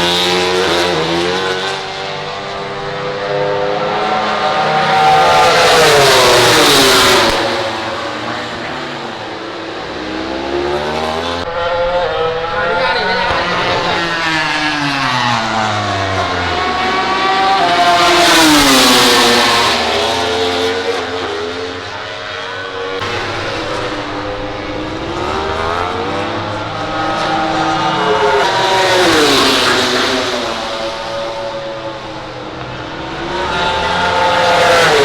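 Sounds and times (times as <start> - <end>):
racing motorcycles passing at high revs: 0.0 - 35.0.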